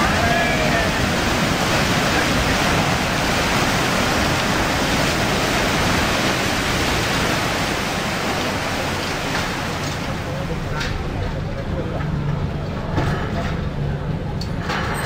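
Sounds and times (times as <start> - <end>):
paddle wheel churning water: 0.0 - 15.0.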